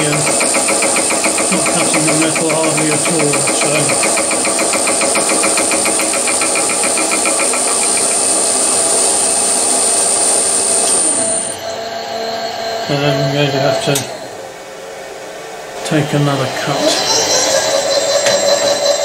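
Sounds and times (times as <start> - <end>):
milling machine whine: 0.0 - 19.0.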